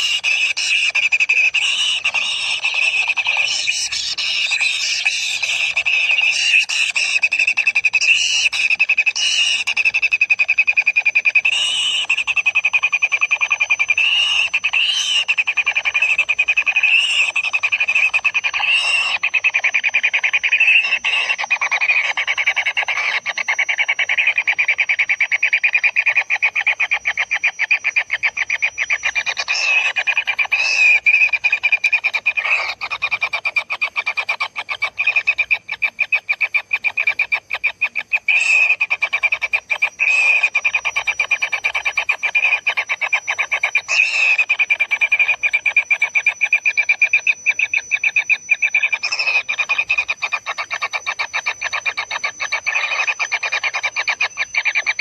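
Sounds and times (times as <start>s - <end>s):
nestlings buzzy ticking calls: 0.0s - 55.0s.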